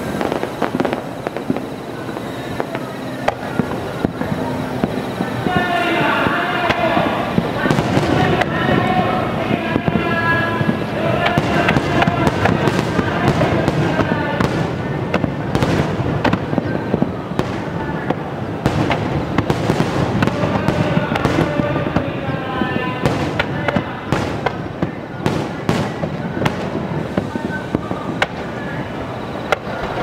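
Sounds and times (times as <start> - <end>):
firework crackle and rumble: 0.0 - 30.0
firework shells bursting: 0.0 - 30.0.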